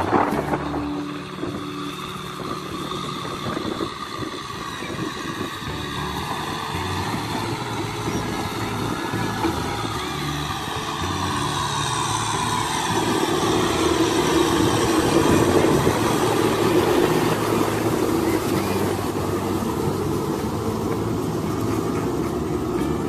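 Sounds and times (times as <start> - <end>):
rotary tiller churning mud: 0.0 - 23.0
tractor diesel engine running: 0.0 - 23.0.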